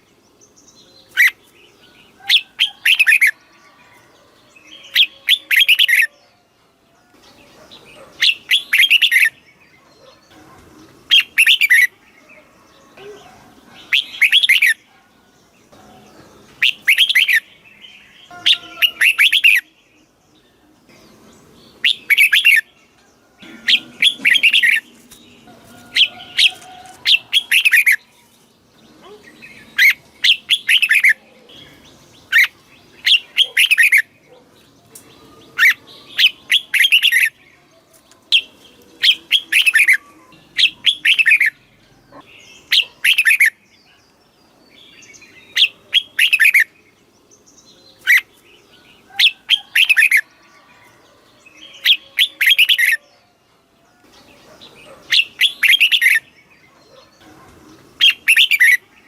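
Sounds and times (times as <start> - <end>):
bird singing warbling phrases: 0.0 - 4.0, 4.6 - 59.0.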